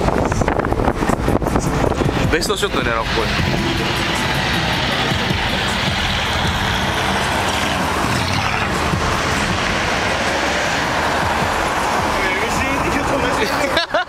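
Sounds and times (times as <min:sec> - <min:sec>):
car engines rumbling: 0:00.0 - 0:14.0
road noise: 0:00.0 - 0:14.0.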